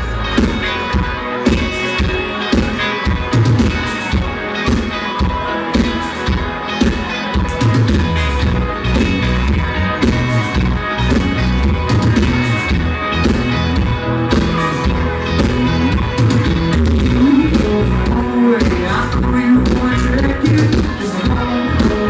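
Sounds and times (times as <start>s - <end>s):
electric guitar: 0.0s - 22.0s
live country-rock band playing: 0.0s - 22.0s.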